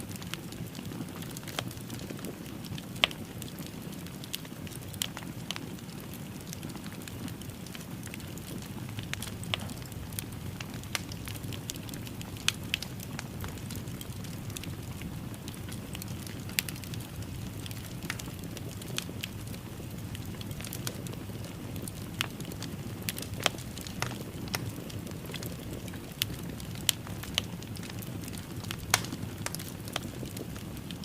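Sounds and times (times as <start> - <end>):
low rush of flames: 0.0 - 31.0
wood fire crackling: 0.0 - 31.0.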